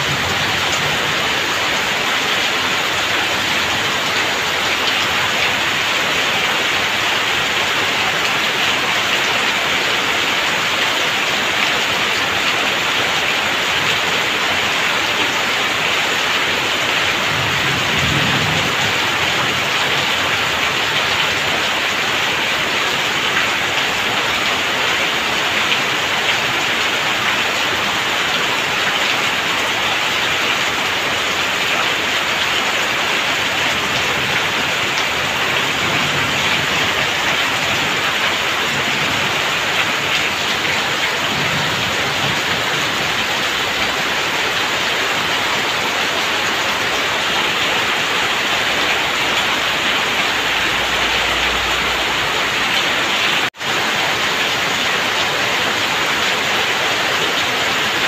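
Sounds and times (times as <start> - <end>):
heavy rain falling: 0.0 - 58.0
water pouring off eaves: 0.0 - 58.0.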